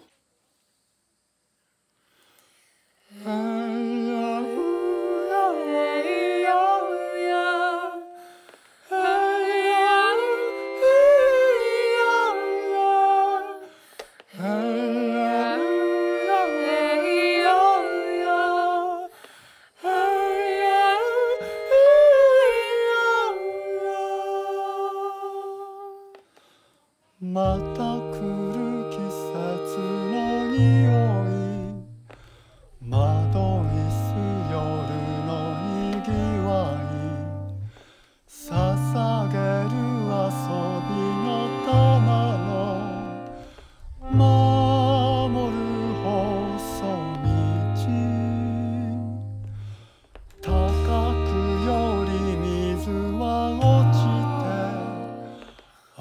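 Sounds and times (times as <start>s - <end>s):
wordless vocal harmony singing: 3.1s - 26.2s, 27.2s - 32.0s, 32.7s - 56.0s.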